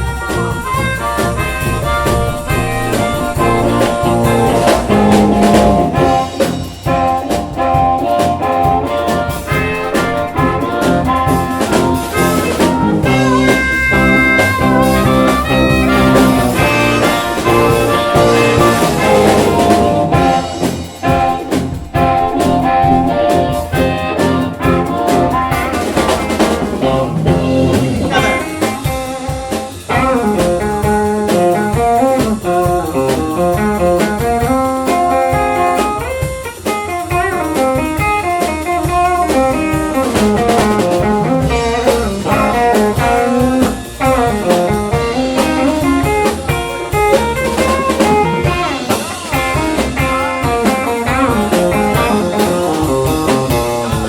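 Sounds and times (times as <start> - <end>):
live blues band playing: 0.0 - 54.0.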